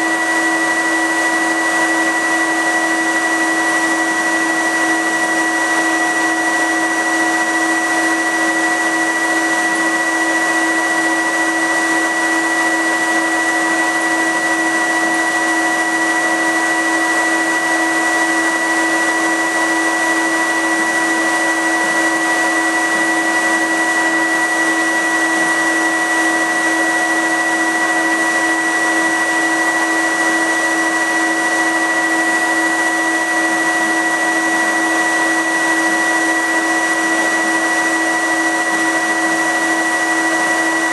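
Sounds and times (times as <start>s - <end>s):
loud extraction blower rushing: 0.0s - 40.9s.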